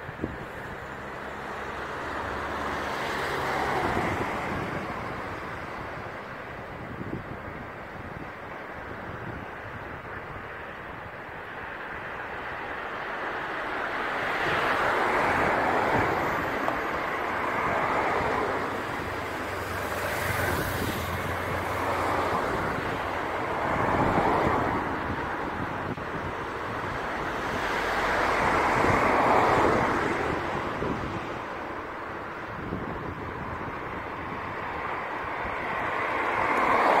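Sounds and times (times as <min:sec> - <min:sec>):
gale-force wind gusting: 0:00.0 - 0:37.0
wind buffeting microphone: 0:00.0 - 0:37.0.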